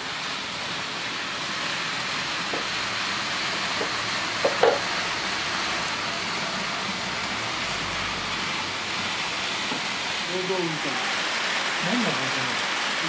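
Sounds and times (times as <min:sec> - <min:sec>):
model trains rushing: 0:00.0 - 0:13.0.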